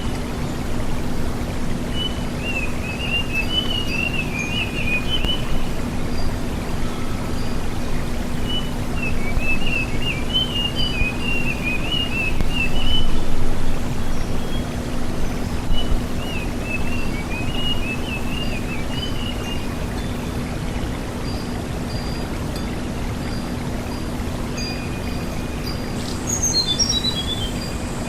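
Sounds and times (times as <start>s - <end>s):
constant low hum: 0.0s - 28.0s
songbird twittering whistled song: 0.0s - 28.0s.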